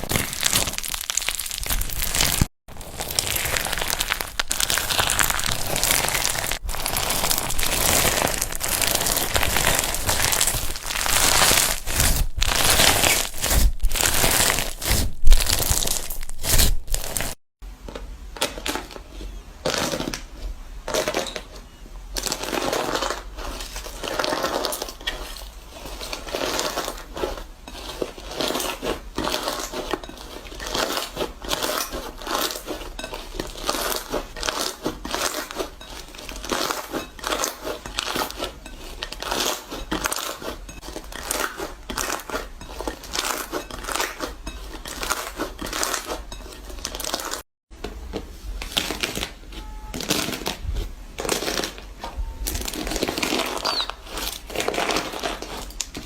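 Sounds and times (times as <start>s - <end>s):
material crackling and crunching: 0.0s - 17.4s, 18.4s - 56.0s.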